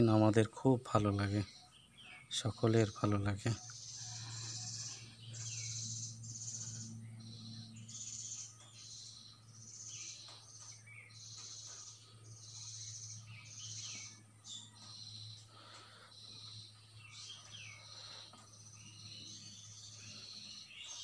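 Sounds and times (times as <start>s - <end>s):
steady low hum: 0.0s - 21.0s
high-pitched chirping trills: 2.5s - 21.0s.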